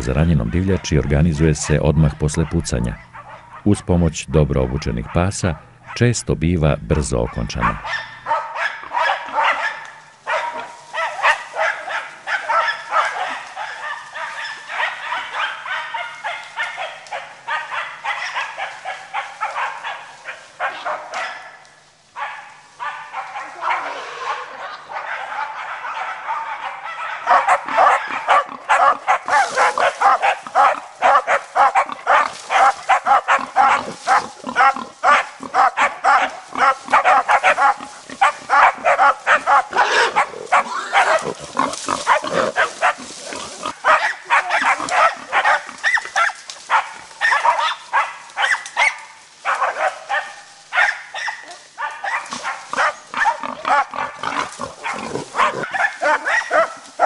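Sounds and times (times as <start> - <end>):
dogs barking: 0.0 - 6.2, 6.9 - 57.0.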